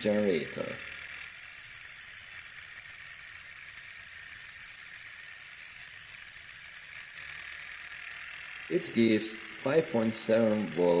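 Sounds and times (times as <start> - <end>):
engine whir with high whine: 0.0 - 11.0.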